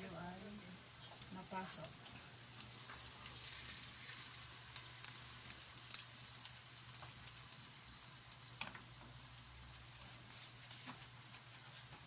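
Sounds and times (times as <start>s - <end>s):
oil sizzling with pops: 0.0s - 12.0s.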